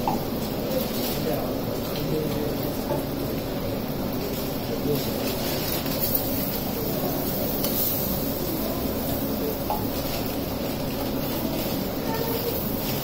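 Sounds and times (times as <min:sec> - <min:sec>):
exhaust hood fan whirring: 0:00.0 - 0:13.0.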